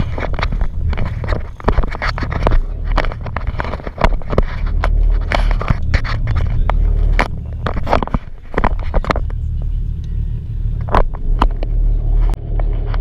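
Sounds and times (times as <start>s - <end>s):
boat engines idling: 0.0s - 13.0s
handling knocks and scrapes: 0.0s - 13.0s.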